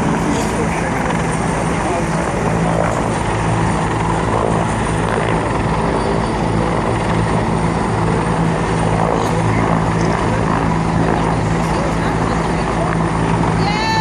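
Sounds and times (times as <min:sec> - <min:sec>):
helicopter hovering: 0:00.0 - 0:14.0.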